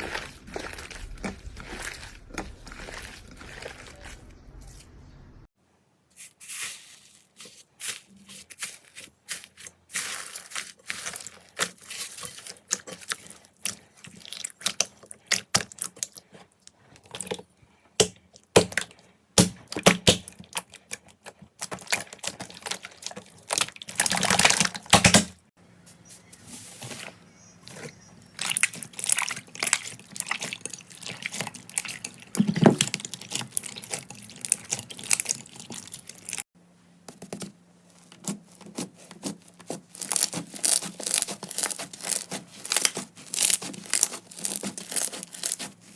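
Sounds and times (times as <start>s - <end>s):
slime squelch: 0.0s - 5.0s, 6.2s - 25.2s, 25.9s - 36.5s, 37.1s - 45.9s.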